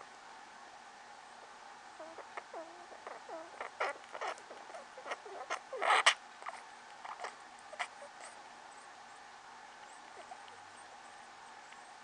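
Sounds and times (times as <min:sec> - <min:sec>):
rats laboured breathing: 0:02.0 - 0:12.0.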